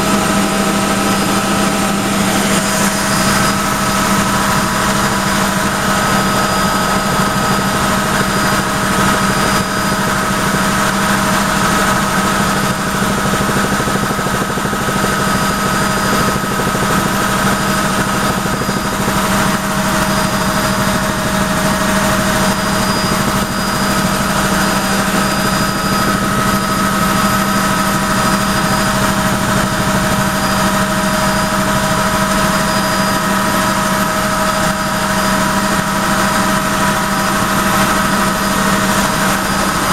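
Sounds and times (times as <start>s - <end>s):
helicopter cabin noise with whine: 0.0s - 39.9s.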